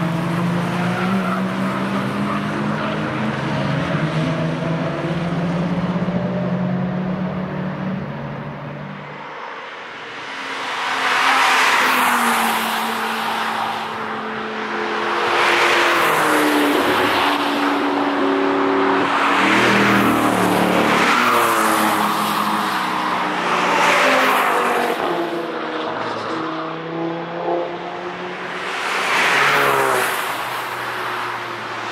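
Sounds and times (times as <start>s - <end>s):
cars passing at speed: 0.0s - 31.9s.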